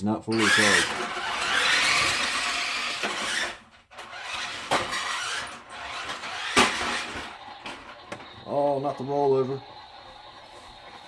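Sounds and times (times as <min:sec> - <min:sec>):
electric motor whining: 0:00.4 - 0:11.0.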